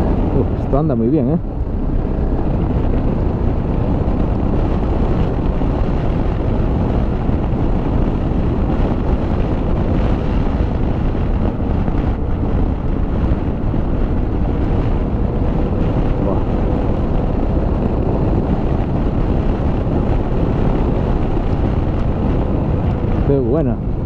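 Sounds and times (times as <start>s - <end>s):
motorcycle engine cruising: 0.0s - 24.0s
wind rushing over microphone: 0.0s - 24.0s.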